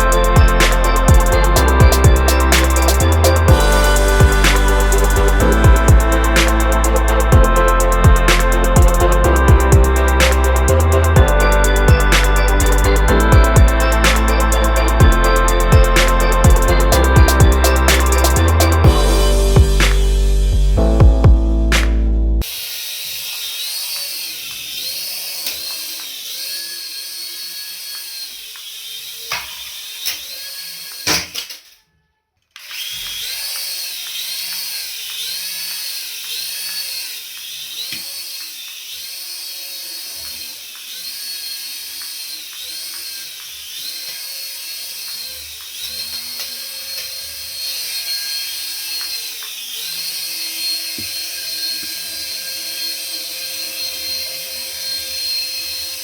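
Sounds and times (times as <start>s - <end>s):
toy electric motor whine: 0.0s - 20.6s, 22.4s - 56.0s.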